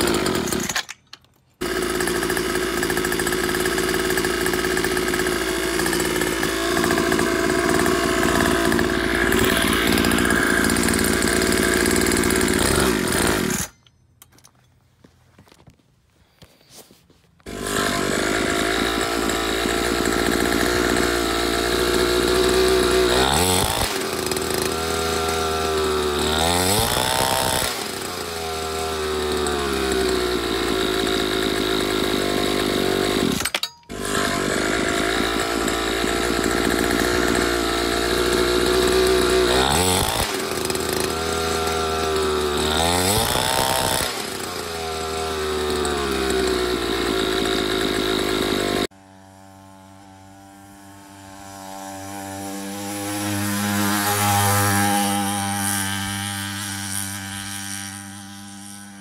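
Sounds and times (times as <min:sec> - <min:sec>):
two-stroke engine revving: 0:00.0 - 0:00.8, 0:01.6 - 0:13.8, 0:17.4 - 0:59.0.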